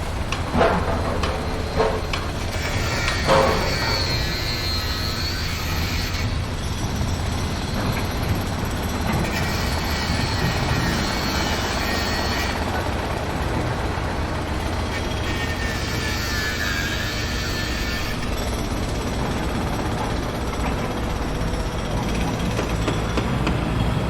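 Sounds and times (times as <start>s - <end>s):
heavy machinery engine rumble: 0.0s - 24.0s.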